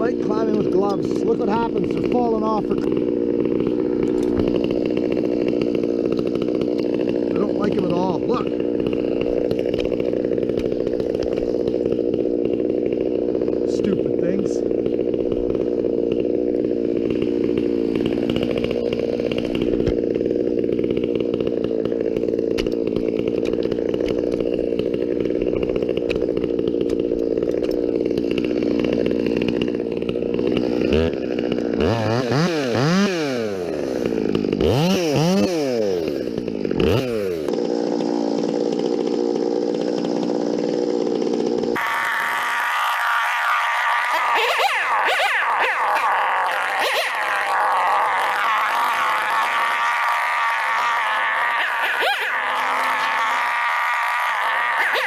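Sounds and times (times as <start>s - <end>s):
chainsaw engine revving: 0.0s - 55.0s
higher-pitched engine sound: 0.0s - 55.0s.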